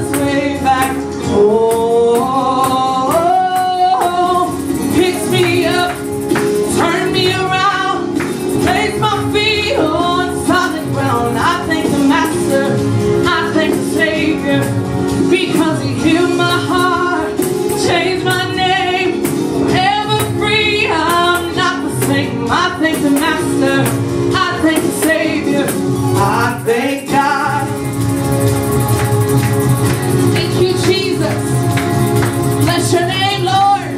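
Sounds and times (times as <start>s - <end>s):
woman singing gospel song: 0.0s - 28.1s, 30.0s - 33.9s
instrumental backing music: 0.0s - 33.9s.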